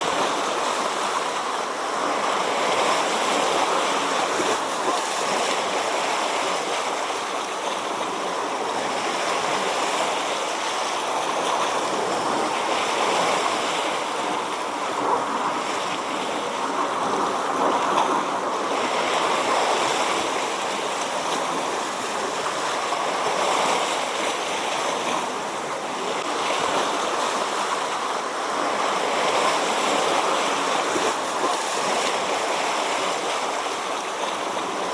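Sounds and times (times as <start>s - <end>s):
sea waves washing in: 0.0s - 34.9s.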